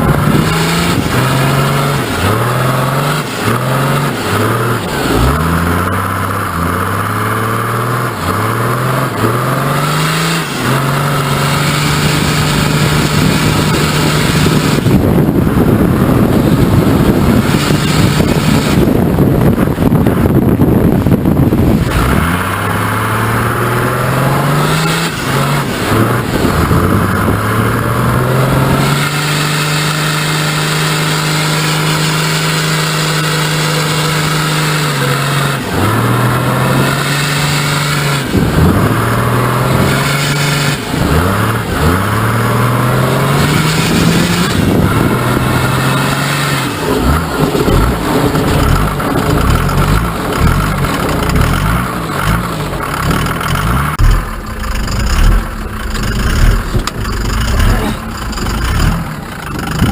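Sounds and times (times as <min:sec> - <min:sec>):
diesel truck engine revving: 0:00.0 - 0:59.9.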